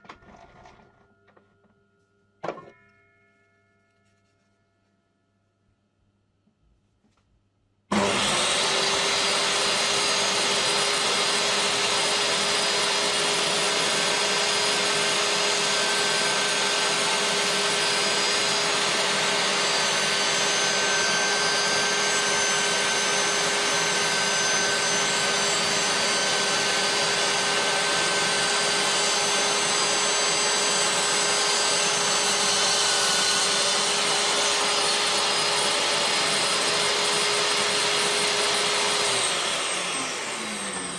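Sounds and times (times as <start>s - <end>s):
table saw motor whining: 7.9s - 40.9s.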